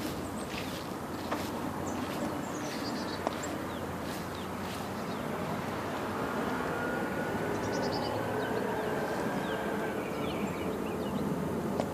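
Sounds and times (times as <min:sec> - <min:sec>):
distant engine drone: 0:00.0 - 0:11.9.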